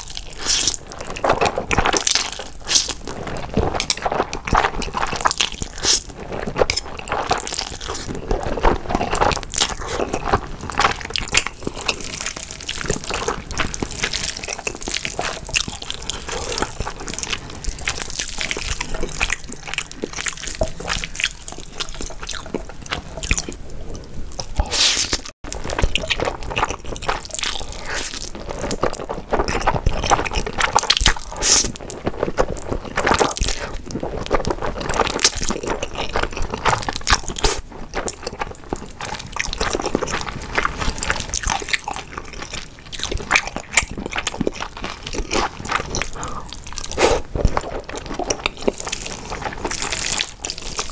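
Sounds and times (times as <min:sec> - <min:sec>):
slurping and chewing noodles: 0:00.0 - 0:50.9.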